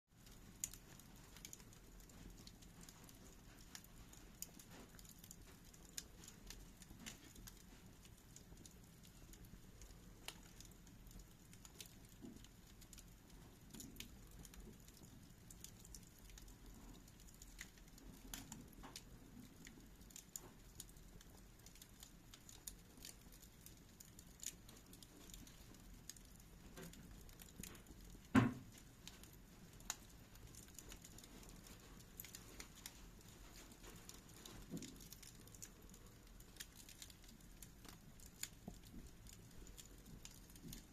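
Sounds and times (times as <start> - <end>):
wood fire crackling: 0.1 - 40.9
fire popping: 0.2 - 40.9
loud fire crack: 0.2 - 40.9.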